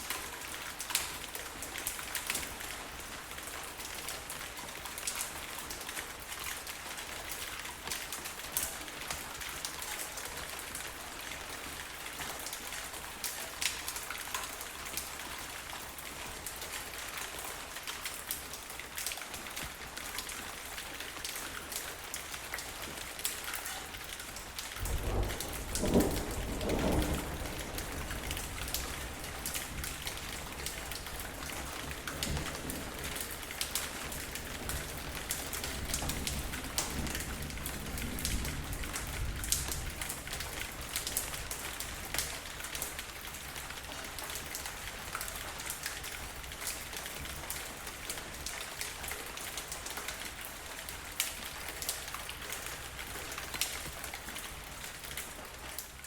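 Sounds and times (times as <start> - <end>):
rain on a hard surface: 0.0 - 56.0.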